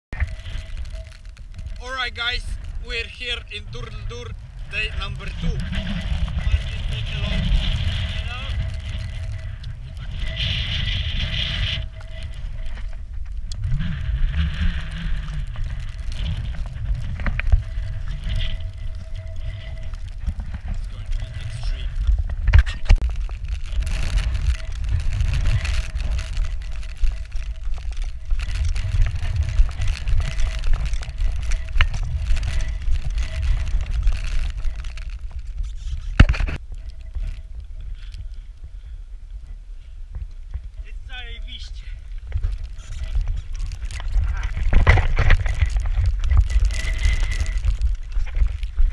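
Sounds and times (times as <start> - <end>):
rustling and crackling: 0.0 - 48.9
wind buffeting microphone: 0.1 - 48.9.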